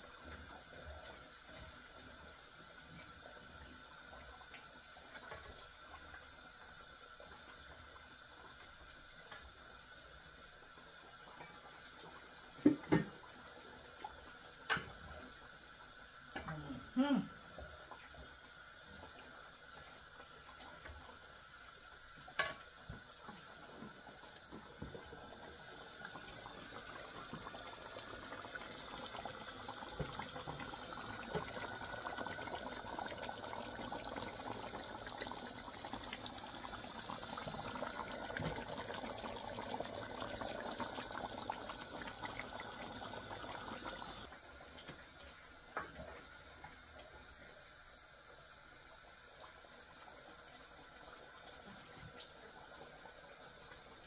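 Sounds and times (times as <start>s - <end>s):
water running: 10.5s - 54.0s.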